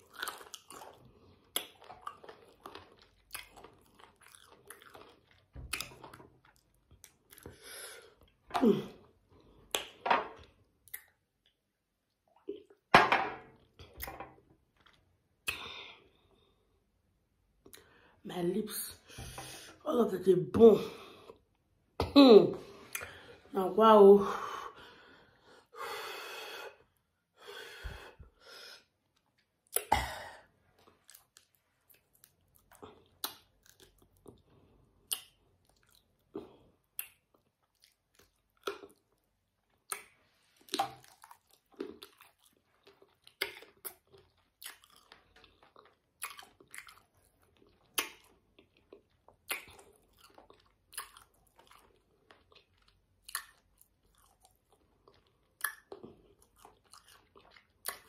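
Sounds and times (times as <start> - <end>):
chewing and crunching food: 0.0 - 16.8, 26.8 - 58.0.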